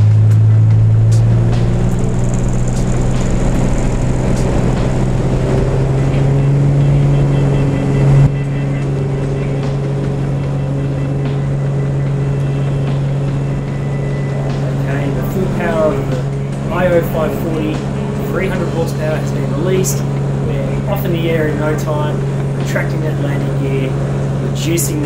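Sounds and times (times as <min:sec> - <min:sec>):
aircraft engine droning: 0:00.0 - 0:25.0.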